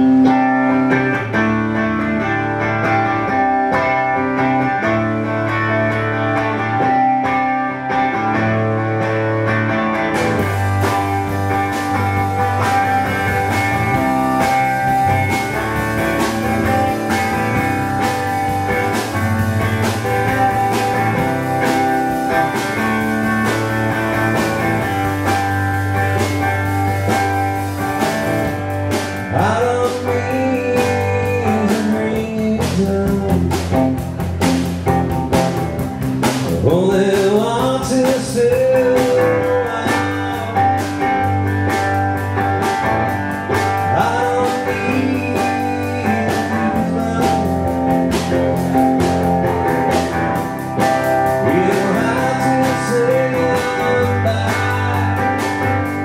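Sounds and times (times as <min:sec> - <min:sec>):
drum kit with cymbals: 0:00.0 - 0:56.0
electric bass: 0:00.0 - 0:56.0
electric guitar: 0:00.0 - 0:56.0.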